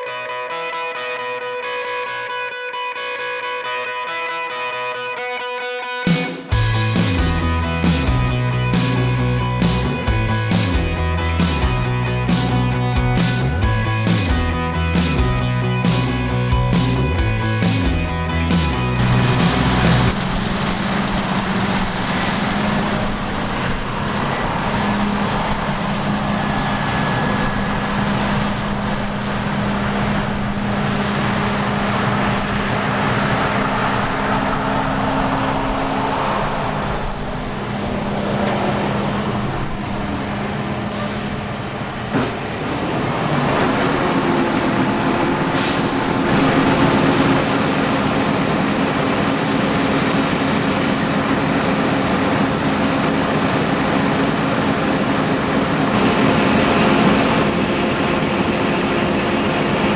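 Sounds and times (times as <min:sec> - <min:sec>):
diesel machinery engine hum: 0:06.5 - 0:59.9.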